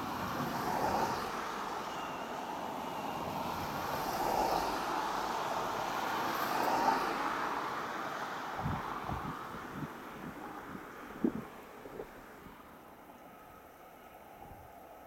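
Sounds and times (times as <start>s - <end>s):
distant vehicle rush: 0.0s - 14.8s.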